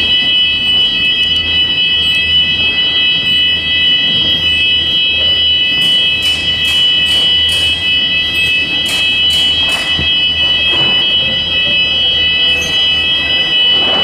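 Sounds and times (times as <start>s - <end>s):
fire alarm high-pitched tone: 0.0s - 14.0s.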